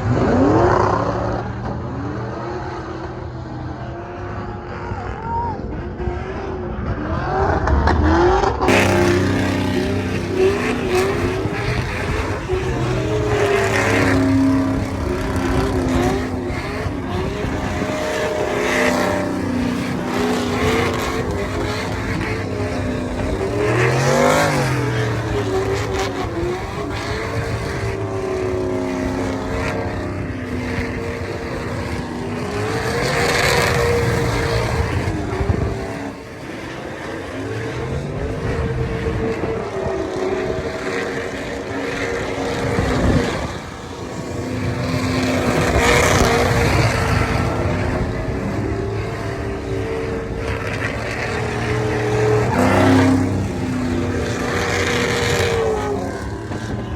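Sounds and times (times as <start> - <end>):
vehicle engines revving: 0.0 - 56.9.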